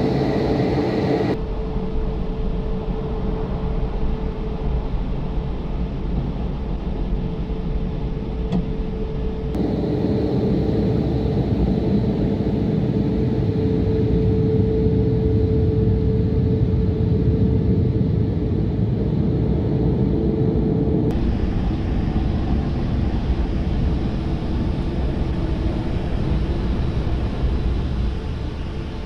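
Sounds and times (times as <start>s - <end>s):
faint high whine: 0.0s - 29.0s.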